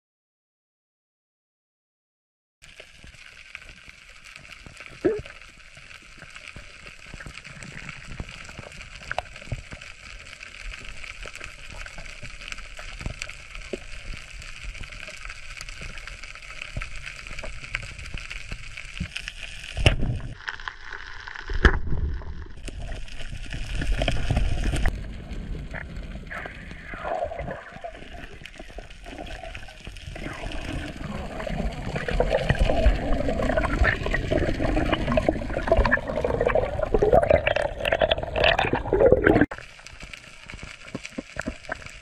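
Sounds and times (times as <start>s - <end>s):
low rumbling and gurgling: 4.3s - 42.0s.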